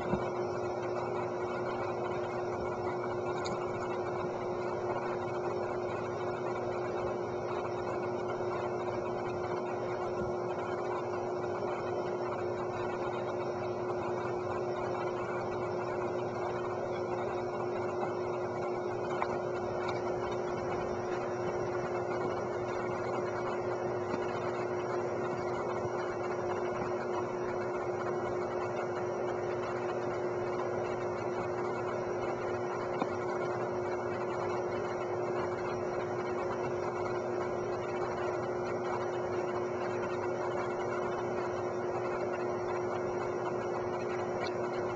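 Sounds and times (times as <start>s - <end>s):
machine hum: 0.0s - 44.9s.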